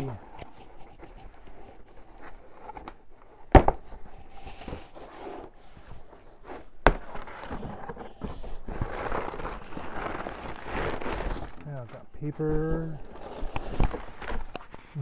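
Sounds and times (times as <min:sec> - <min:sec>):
cardboard rustling: 0:00.0 - 0:15.0.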